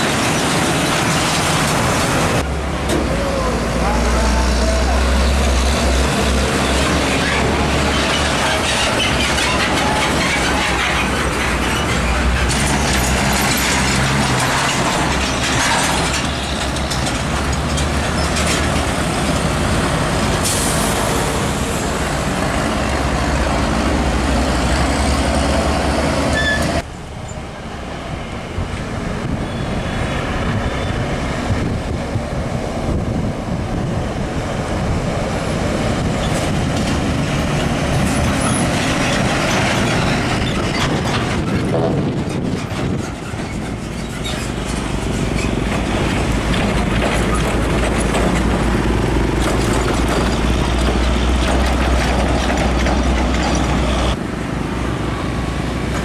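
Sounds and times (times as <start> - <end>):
trucks passing: 0.0 - 56.0.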